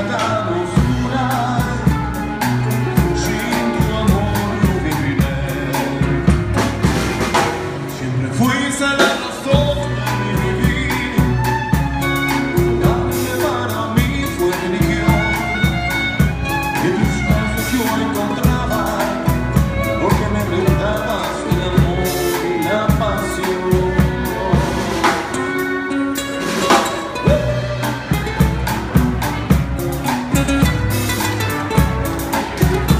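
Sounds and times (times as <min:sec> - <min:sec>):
acoustic band playing: 0:00.0 - 0:32.9
acoustic guitars: 0:00.0 - 0:32.9
drum kit beat: 0:00.0 - 0:32.9
violin: 0:00.0 - 0:32.9.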